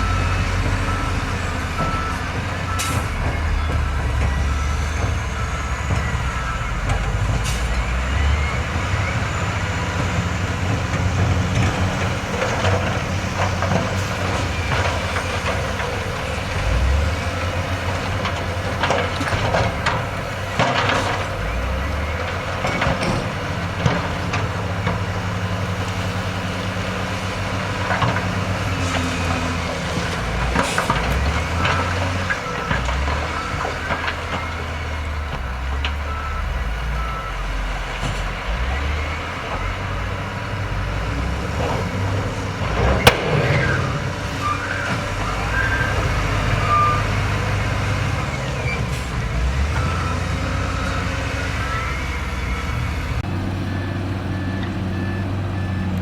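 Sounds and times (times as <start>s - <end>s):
reversing alarm beeping: 0.0s - 26.8s, 27.8s - 39.8s, 43.0s - 56.0s
diesel engine rumble: 0.0s - 56.0s.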